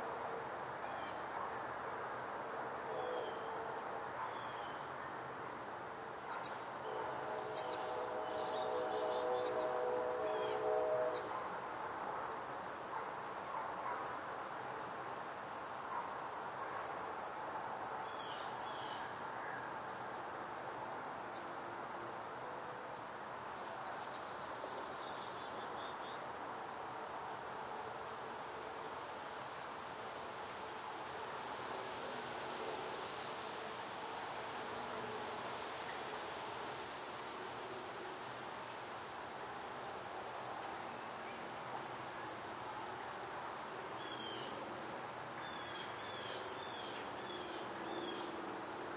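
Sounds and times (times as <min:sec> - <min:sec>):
crickets trilling: 0:00.1 - 0:12.9, 0:17.1 - 0:48.9.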